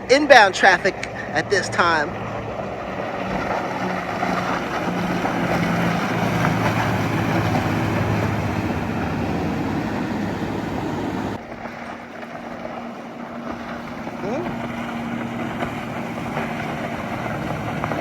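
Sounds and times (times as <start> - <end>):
broad rushing noise: 0.0 - 18.0
motorboat engines humming: 0.0 - 18.0.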